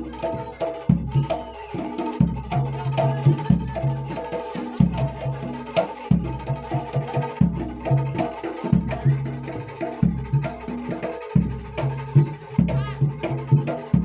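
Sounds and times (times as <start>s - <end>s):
bass drum beats: 0.0s - 1.4s, 2.1s - 14.0s
hand drum strokes: 0.0s - 14.0s.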